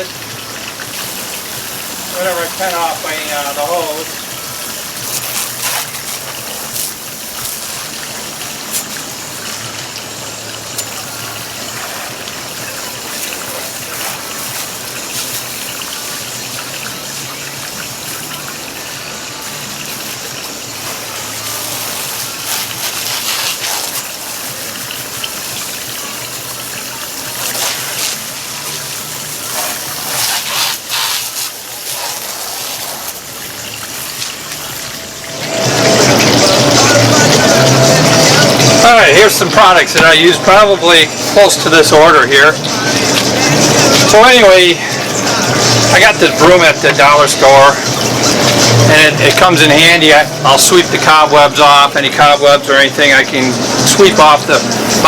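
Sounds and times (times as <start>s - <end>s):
garden hose spraying water: 0.0s - 55.0s.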